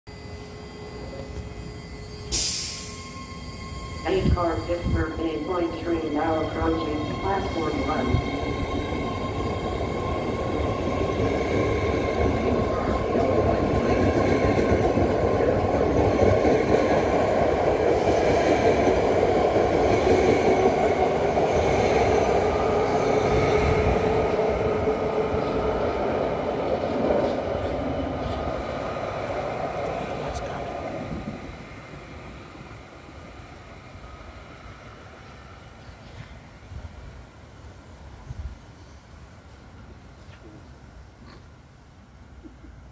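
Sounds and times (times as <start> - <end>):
train rolling on rails: 0.1 - 42.9.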